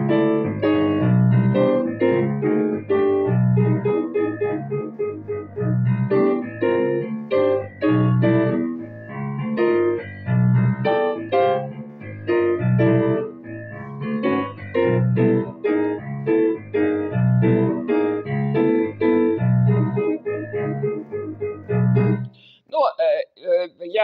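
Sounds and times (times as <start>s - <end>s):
low bass chords: 0.0s - 22.3s
piano chords: 0.0s - 22.4s.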